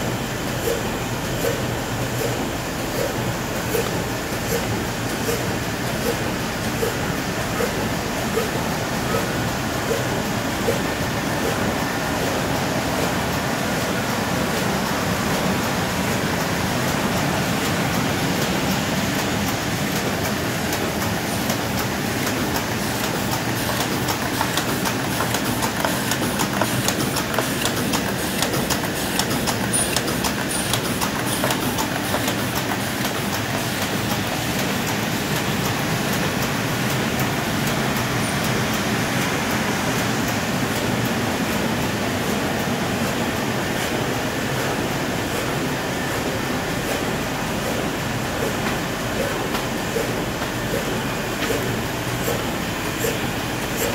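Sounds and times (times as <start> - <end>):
laminating machine clatter: 0.0 - 53.9.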